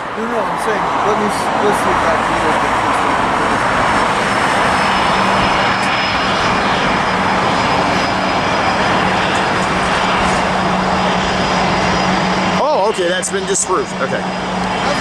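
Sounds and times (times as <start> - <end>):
jet airliner engines passing: 0.0 - 15.0.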